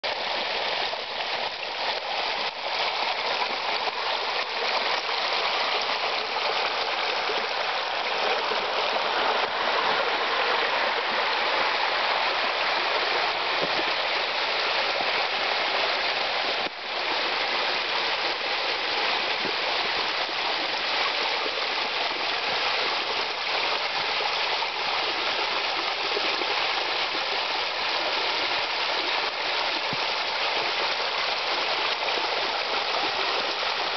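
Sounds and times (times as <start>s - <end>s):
water rushing and splashing: 0.0s - 33.9s.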